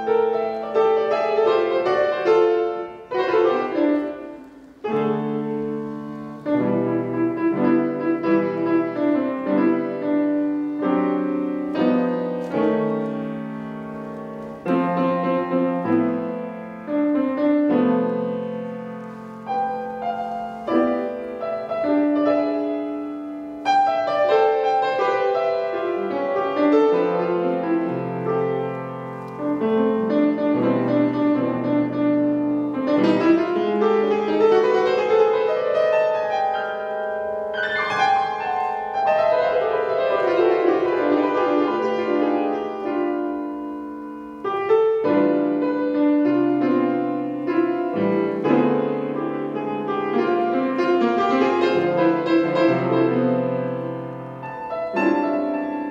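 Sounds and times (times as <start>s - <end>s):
piano improvisation: 0.0s - 55.9s.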